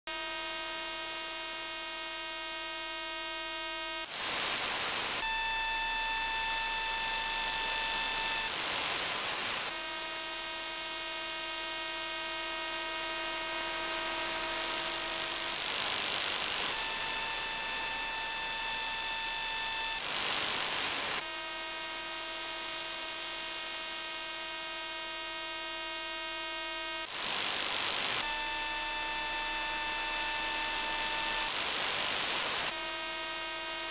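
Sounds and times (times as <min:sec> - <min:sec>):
radio pulsed signal buzz: 0:00.1 - 0:33.9.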